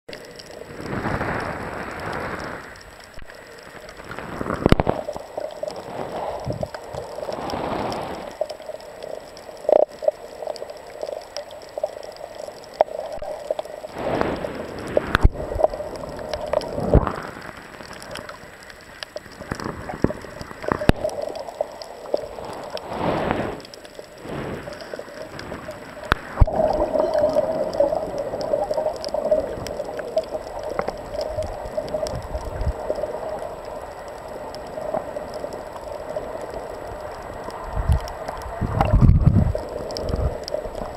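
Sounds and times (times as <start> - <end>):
water sloshing underwater: 0.1 - 40.9.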